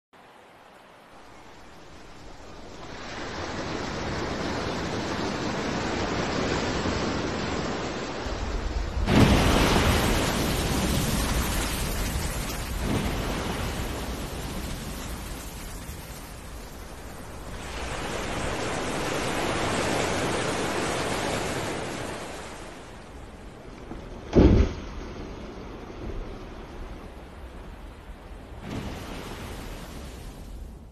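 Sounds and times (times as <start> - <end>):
sea water rushing and splashing: 0.2 - 30.9.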